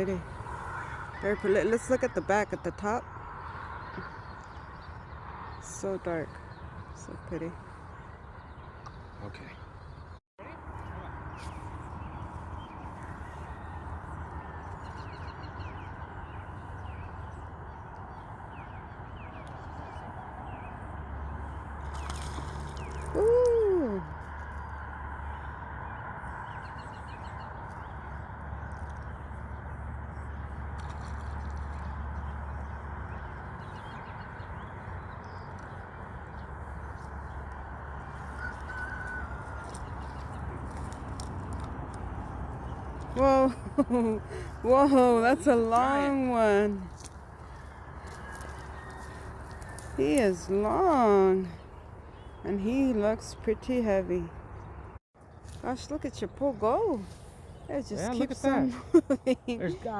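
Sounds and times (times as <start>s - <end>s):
birds chirping: 0.0s - 59.9s
low outdoor rumble: 0.0s - 59.9s.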